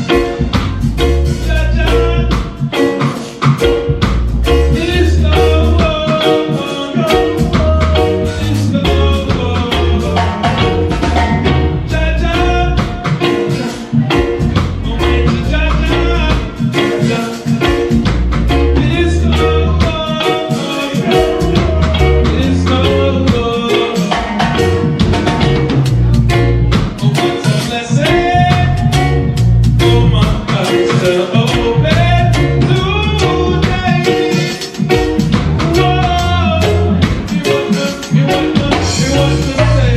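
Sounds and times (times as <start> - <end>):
reggae band playing: 0.0 - 39.9
wavering melodic lead: 0.0 - 39.9.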